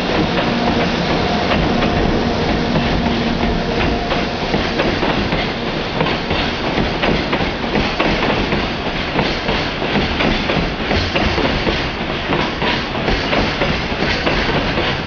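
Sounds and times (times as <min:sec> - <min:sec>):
freight train rumbling past: 0:00.0 - 0:15.0
wheels clacking over rail joints: 0:00.0 - 0:15.0.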